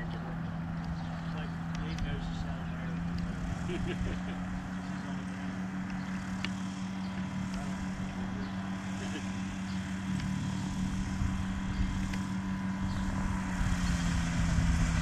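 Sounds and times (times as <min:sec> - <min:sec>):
light aircraft engine droning: 0:00.0 - 0:15.0.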